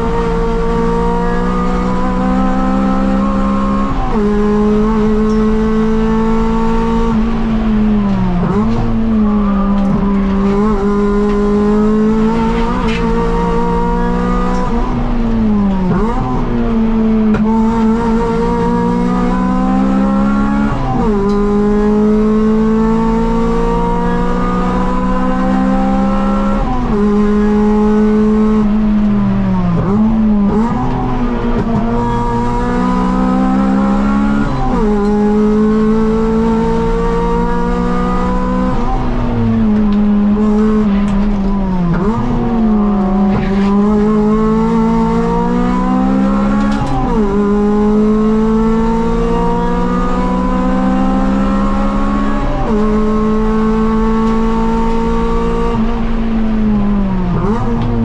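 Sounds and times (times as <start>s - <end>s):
car engine revving hard: 0.0s - 58.0s.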